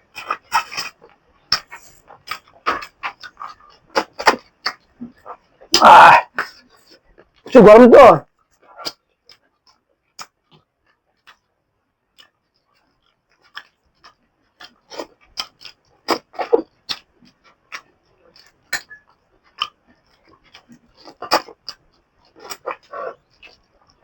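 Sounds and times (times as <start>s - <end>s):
man chewing and lip smacking: 0.0s - 7.5s, 8.4s - 24.0s.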